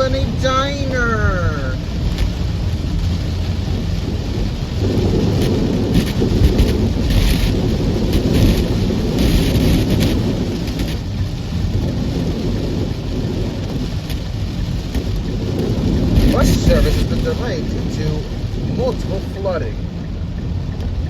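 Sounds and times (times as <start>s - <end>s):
heavy rain: 0.0s - 21.0s
road and engine rumble: 0.0s - 21.0s
water surging under car: 0.0s - 21.0s.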